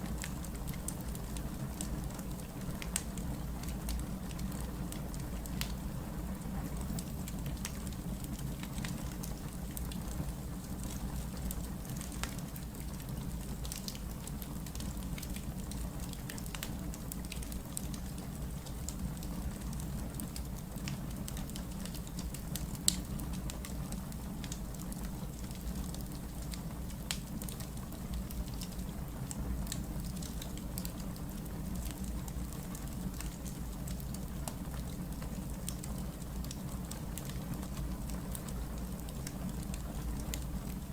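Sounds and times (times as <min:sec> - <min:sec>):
wood fire rumbling and crackling: 0:00.0 - 0:40.9.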